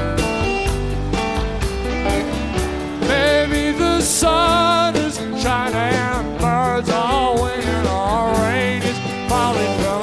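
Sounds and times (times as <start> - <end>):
rock band playing live: 0.0 - 10.0.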